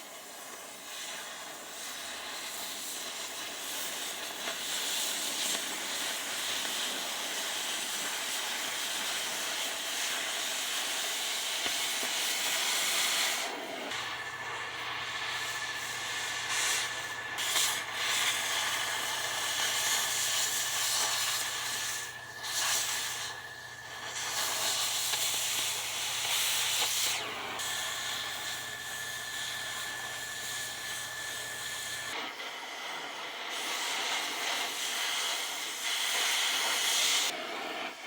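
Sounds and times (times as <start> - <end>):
cutting torch hissing: 0.0 - 38.0.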